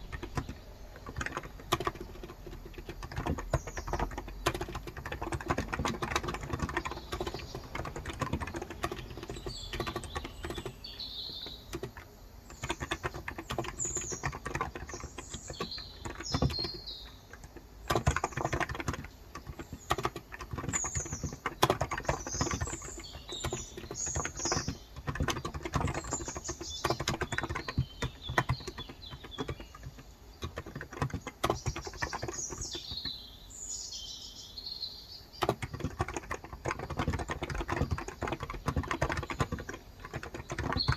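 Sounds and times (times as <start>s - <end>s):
keyboard typing: 0.0s - 33.2s, 35.3s - 40.9s
birds chirping: 0.0s - 40.9s.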